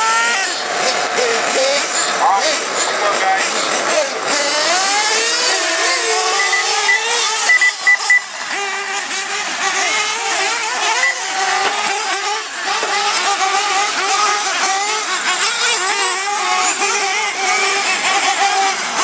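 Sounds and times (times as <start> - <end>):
rc car engines racing: 0.0 - 19.0.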